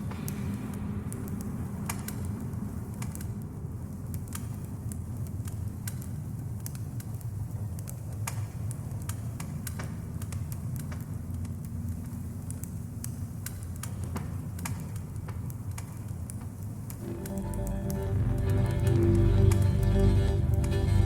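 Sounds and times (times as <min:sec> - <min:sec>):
dark ambient music droning hum: 0:00.0 - 0:21.0
sparse crackles: 0:00.0 - 0:21.0.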